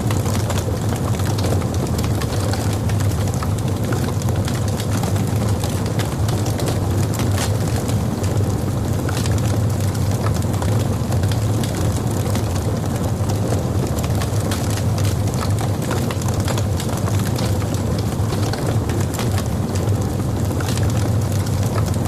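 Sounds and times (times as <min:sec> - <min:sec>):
fire crackling and popping: 0:00.0 - 0:22.0
log fire rumbling: 0:00.0 - 0:22.0.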